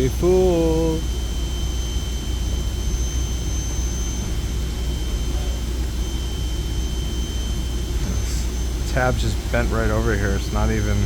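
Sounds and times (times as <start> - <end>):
machine drone: 0.0 - 11.0.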